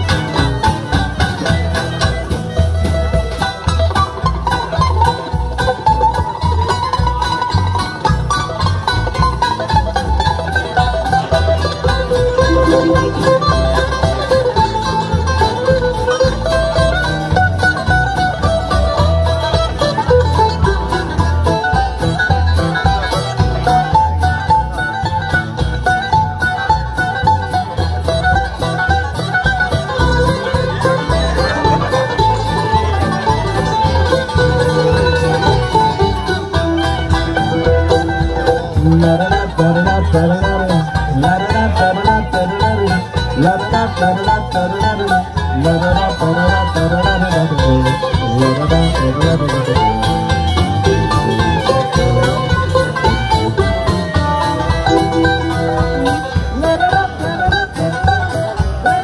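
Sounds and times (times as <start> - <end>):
banjo picking: 0.0 - 59.0
live band playing bluegrass: 0.0 - 59.0.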